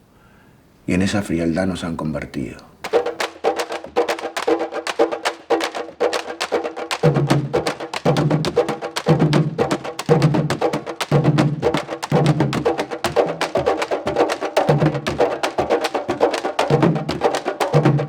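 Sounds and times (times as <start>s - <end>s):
deep drum beats: 2.8s - 18.0s
sticks striking wood and drumheads: 2.8s - 18.0s.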